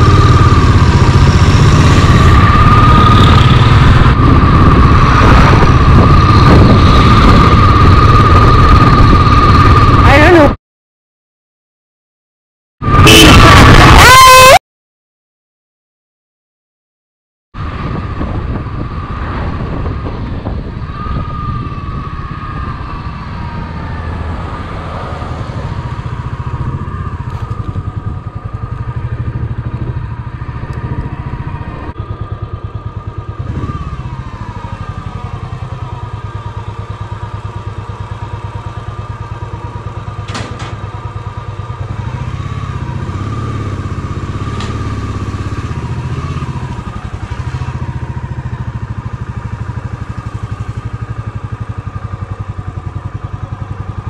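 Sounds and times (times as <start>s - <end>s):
motorcycle engine running: 0.0s - 10.6s, 17.6s - 54.0s.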